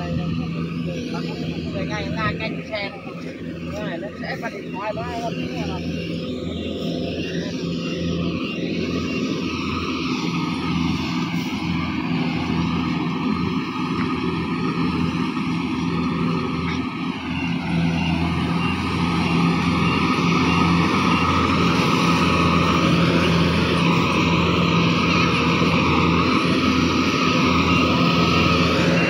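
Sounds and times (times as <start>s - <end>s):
combine harvester engine running: 0.0s - 29.0s.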